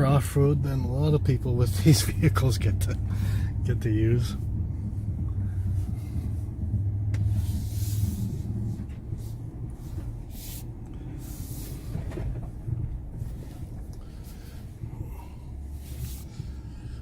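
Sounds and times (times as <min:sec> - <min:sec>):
truck rattling: 0:00.0 - 0:16.8
truck engine rumbling: 0:00.0 - 0:17.0.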